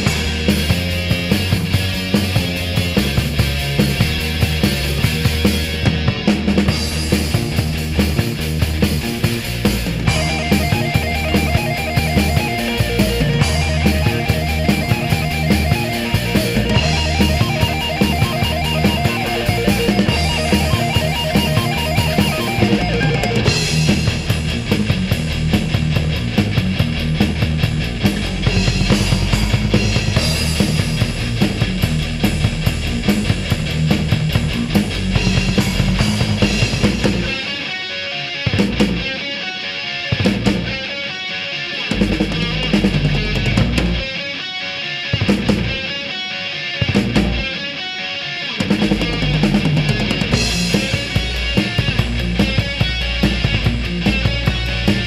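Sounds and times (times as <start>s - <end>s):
electric guitar riffing: 0.0s - 55.0s
heavy metal band playing: 0.0s - 55.0s.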